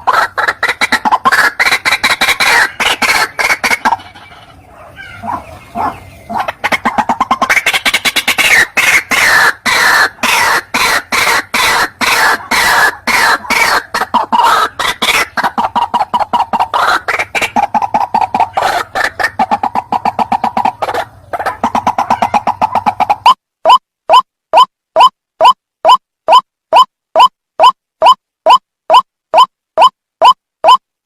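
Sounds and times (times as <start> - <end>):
waterhen calling harsh repeated notes: 0.0 - 30.8.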